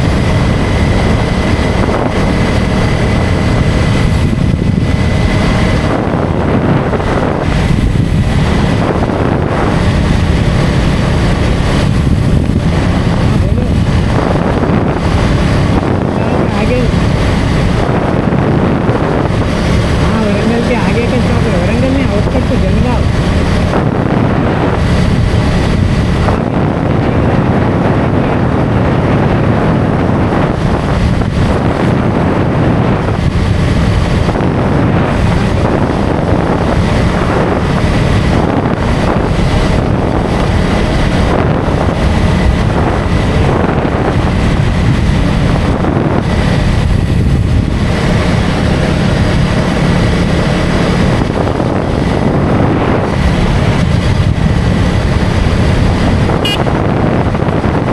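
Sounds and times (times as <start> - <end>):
motorcycle engine cruising: 0.0 - 57.9
road noise: 0.0 - 57.9
wind rushing over microphone: 0.0 - 57.9.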